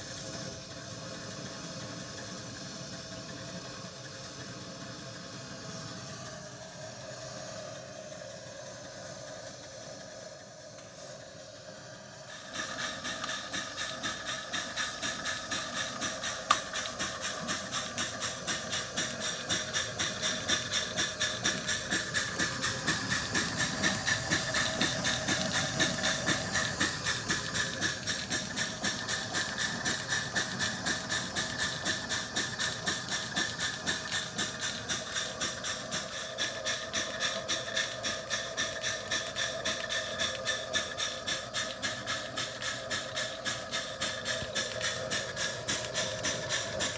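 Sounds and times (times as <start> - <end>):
steady steam hiss: 0.0 - 46.9
steam engine exhaust bark: 0.0 - 46.9.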